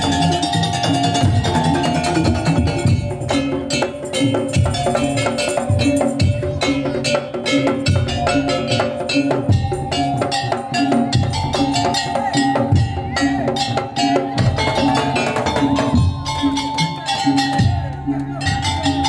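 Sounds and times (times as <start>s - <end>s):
held note melody: 0.0s - 19.0s
percussion ensemble fast beat: 0.0s - 19.0s.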